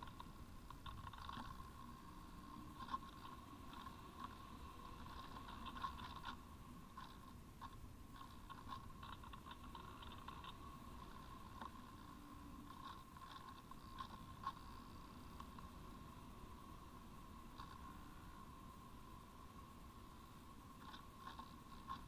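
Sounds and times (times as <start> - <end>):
small clicks and crackles: 0.0 - 22.0
soft steady whine: 0.0 - 22.0.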